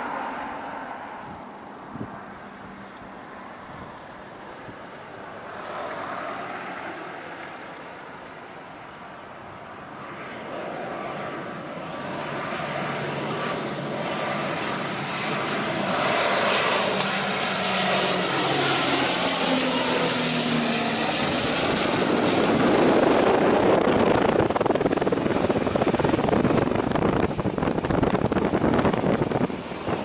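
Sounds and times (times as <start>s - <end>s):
turboprop plane passing overhead: 0.0s - 30.0s.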